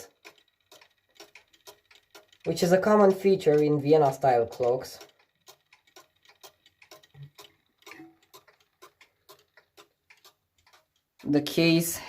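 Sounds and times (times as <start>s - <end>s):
clock ticking faintly: 0.0s - 12.0s.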